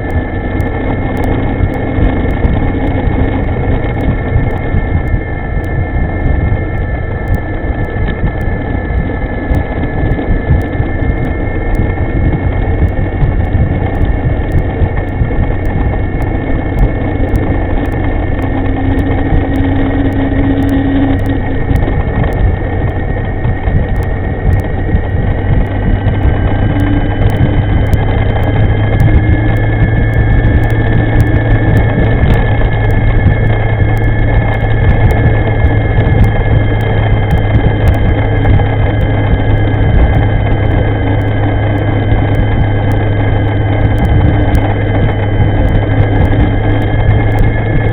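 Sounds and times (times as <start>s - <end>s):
electric motor whine: 0.0s - 47.9s
wind over microphone: 0.0s - 47.9s.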